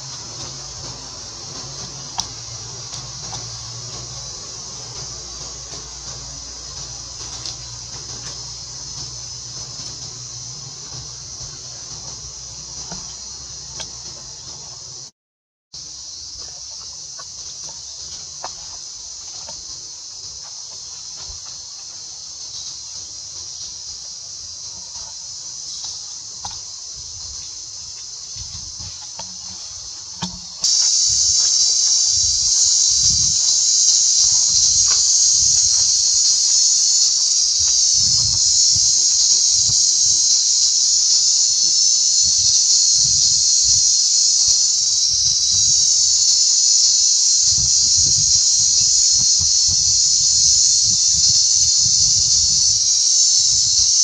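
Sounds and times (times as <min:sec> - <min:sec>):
high-pitched insect chorus: 0:00.0 - 0:15.1, 0:15.8 - 0:54.0.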